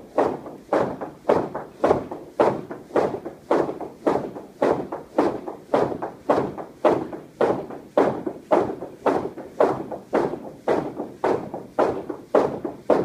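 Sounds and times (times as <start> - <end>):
battle ropes slapping rubber floor: 0.0 - 13.0.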